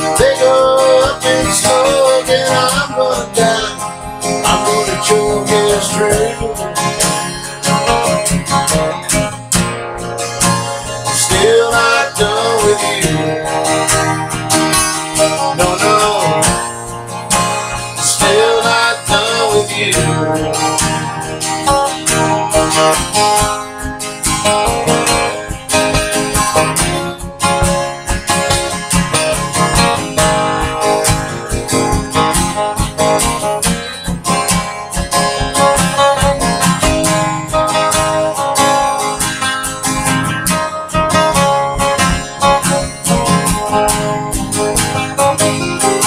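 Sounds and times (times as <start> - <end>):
acoustic guitar strumming: 0.0 - 46.0
picked guitar notes: 0.0 - 46.0.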